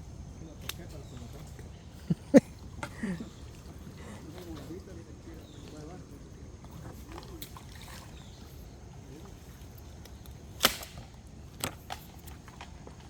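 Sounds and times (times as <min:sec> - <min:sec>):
low outdoor background noise: 0:00.0 - 0:13.0.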